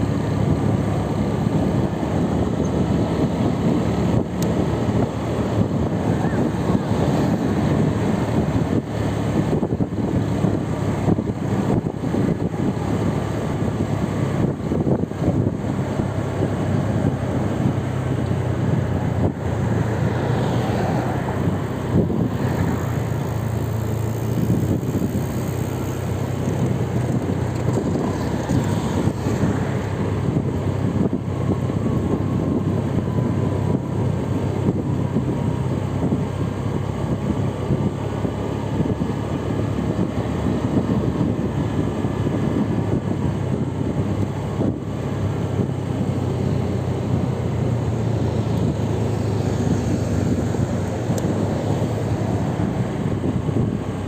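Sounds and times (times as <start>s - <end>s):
road and wind noise: 0.0s - 54.0s
vehicle engine drone: 0.0s - 54.0s.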